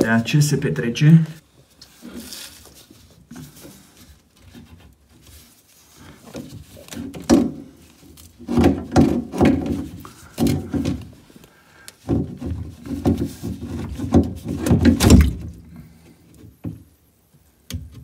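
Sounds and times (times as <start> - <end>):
plastic rubbing and scraping: 1.0 - 15.5.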